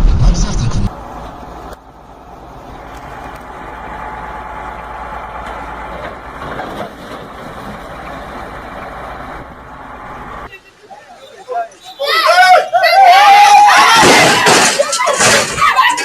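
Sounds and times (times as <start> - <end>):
vehicle engine: 0.0 - 15.7
road noise: 0.0 - 16.0.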